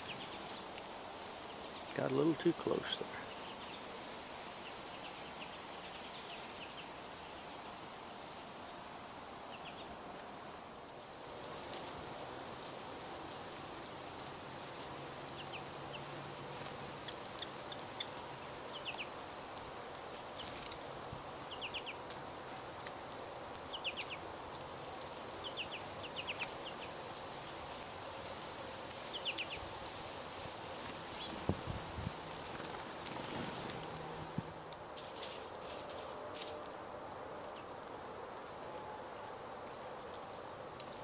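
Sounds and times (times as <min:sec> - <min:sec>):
songbirds chirping: 0:00.0 - 0:41.0
steady outdoor hiss: 0:00.0 - 0:41.0.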